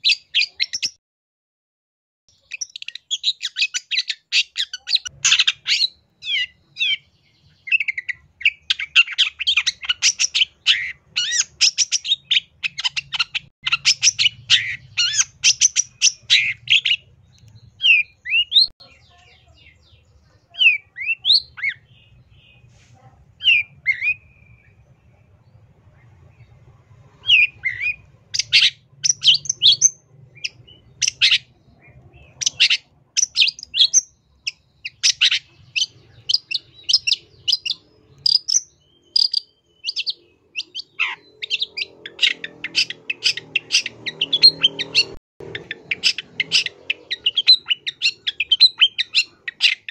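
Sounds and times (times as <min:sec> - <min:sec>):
shrike singing chattering song: 0:02.3 - 0:22.7, 0:26.0 - 0:49.9.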